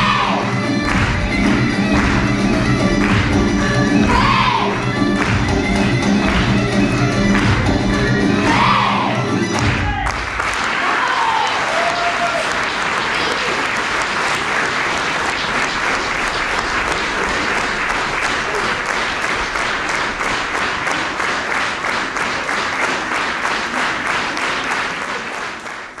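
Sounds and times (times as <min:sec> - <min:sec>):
audience applauding: 0:00.0 - 0:08.7, 0:09.5 - 0:26.0.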